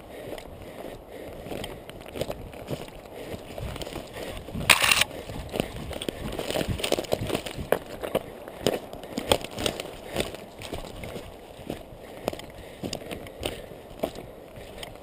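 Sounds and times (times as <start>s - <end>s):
footsteps through undergrowth: 0.0s - 15.0s
twigs crackling underfoot: 0.0s - 15.0s.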